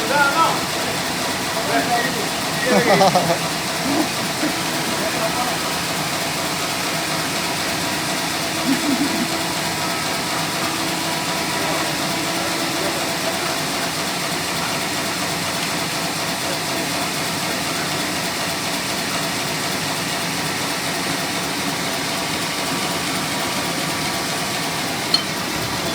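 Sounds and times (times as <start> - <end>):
sawmill machinery humming: 0.0 - 25.9.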